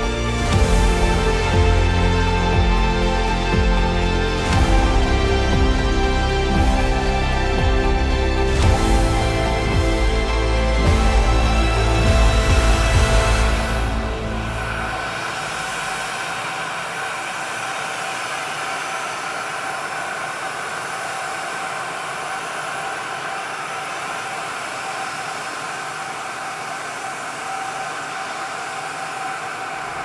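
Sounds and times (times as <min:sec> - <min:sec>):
jet turbine whining: 0:00.0 - 0:30.0.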